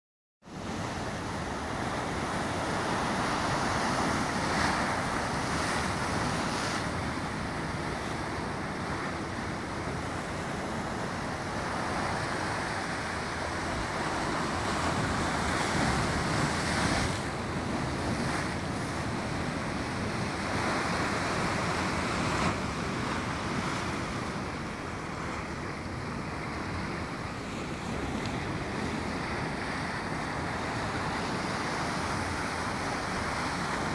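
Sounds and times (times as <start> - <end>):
wind on microphone: 0.6 - 33.9.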